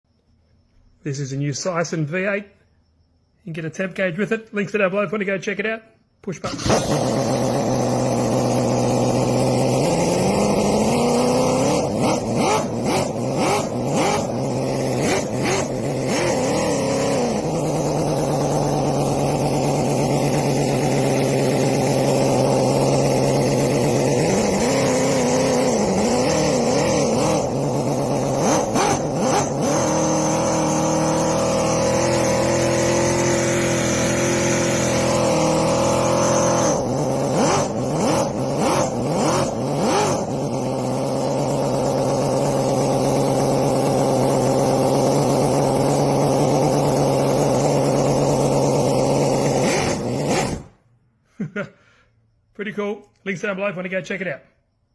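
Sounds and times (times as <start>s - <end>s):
model engine revving: 6.3s - 50.9s.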